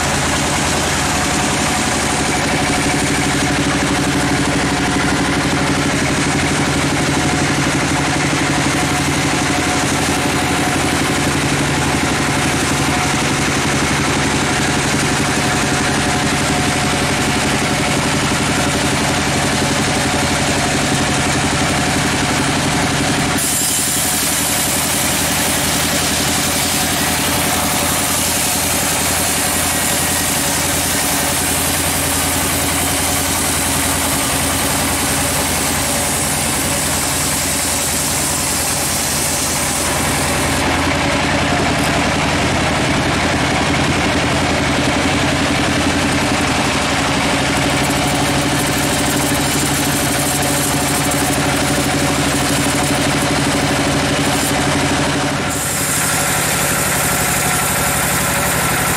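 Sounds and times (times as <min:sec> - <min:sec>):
bandsaw mill humming: 0:00.0 - 0:58.9
blade sawing through log: 0:00.0 - 0:58.9.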